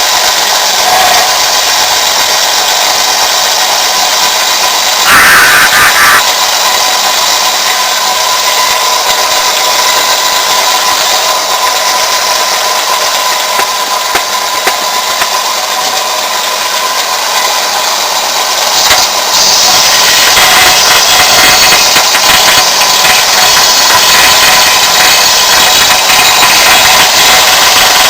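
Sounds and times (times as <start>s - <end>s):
belt grinder running: 0.0s - 28.0s.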